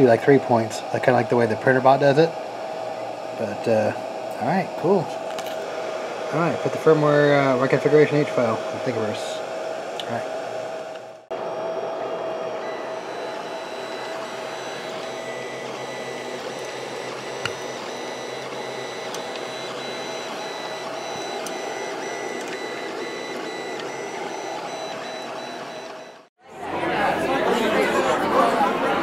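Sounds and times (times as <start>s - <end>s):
printer motors humming and whining: 0.0s - 26.3s.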